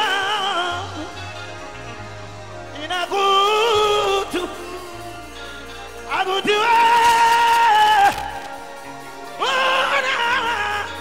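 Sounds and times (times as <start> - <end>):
low keyboard bass: 0.0 - 11.0.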